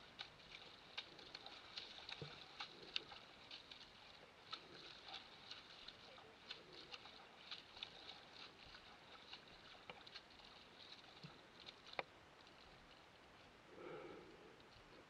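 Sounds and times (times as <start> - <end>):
footsteps splashing in puddle: 0.0 - 13.0.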